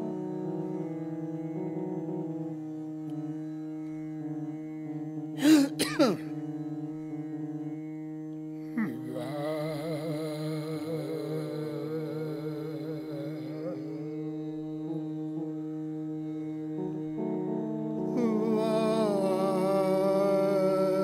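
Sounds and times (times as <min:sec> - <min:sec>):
harmonium and keyboard drone: 0:00.0 - 0:21.0
wavering melody with vibrato: 0:00.0 - 0:21.0.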